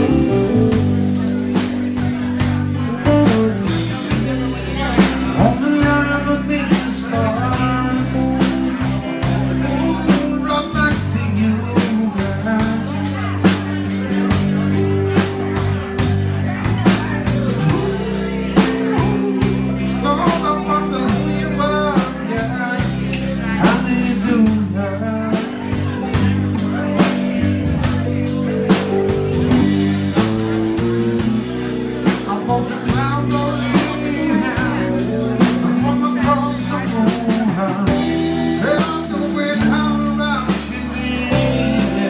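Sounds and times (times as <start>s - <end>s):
pitch-bending melody line: 0.0s - 12.1s, 14.0s - 42.0s
drum kit with cymbals: 0.0s - 42.0s
electric bass: 0.0s - 42.0s
electric guitars: 0.0s - 42.0s.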